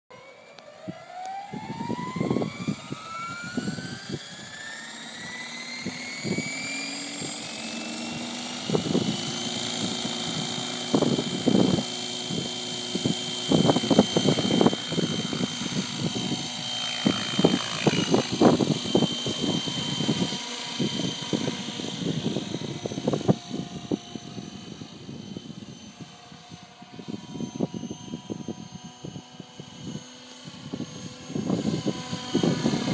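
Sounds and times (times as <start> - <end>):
helicopter turbine whine: 0.1 - 32.9.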